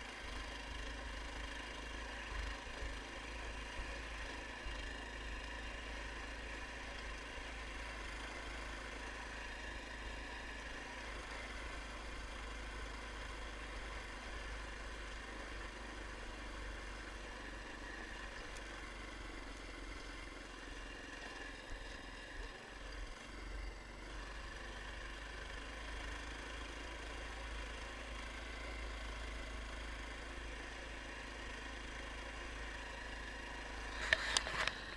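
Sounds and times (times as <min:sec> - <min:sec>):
all-terrain vehicle engine running: 0:00.0 - 0:34.9.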